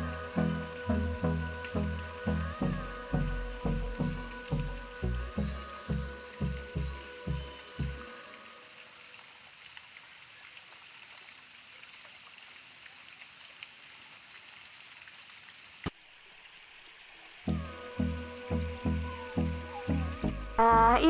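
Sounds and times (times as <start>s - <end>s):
stream trickling over rocks: 0.0s - 21.0s.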